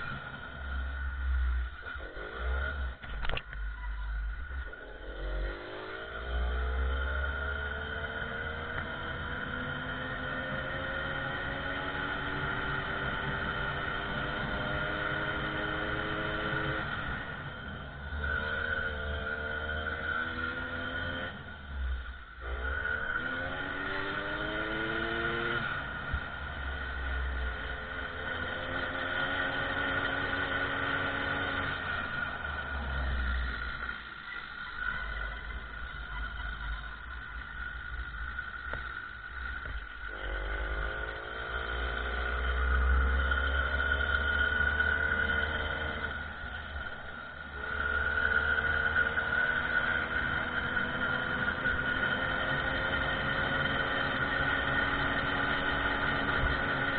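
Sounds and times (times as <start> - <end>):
small motorcycle engine whine: 0.0 - 56.9.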